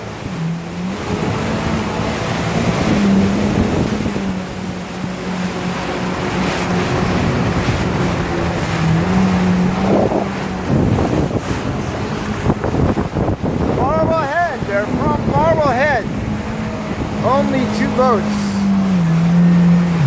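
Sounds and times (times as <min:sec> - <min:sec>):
motorboat engine running: 0:00.0 - 0:20.0
water rushing along hull: 0:00.0 - 0:20.0
water splash: 0:00.0 - 0:20.0
wind on microphone: 0:00.0 - 0:20.0.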